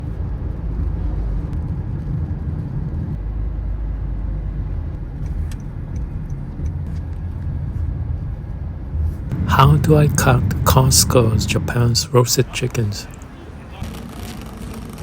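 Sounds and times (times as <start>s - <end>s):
low rumble: 0.0s - 13.2s.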